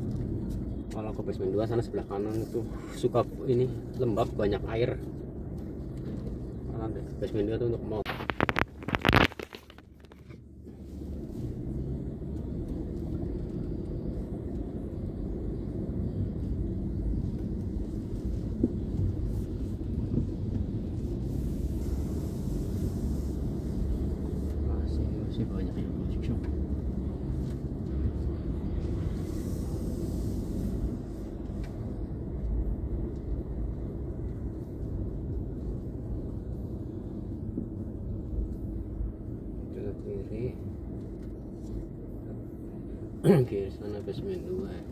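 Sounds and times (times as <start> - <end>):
car engine and tyres rumbling: 0.0 - 44.9.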